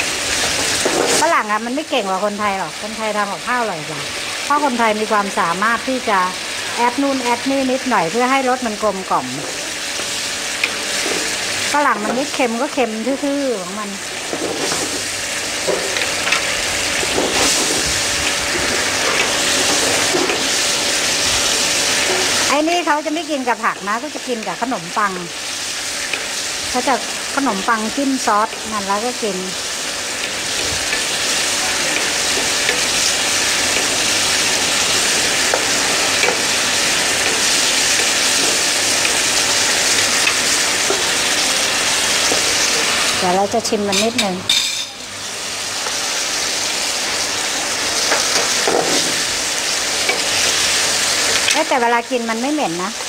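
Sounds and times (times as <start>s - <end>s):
sauce bubbling and sizzling in pan: 0.0s - 53.0s.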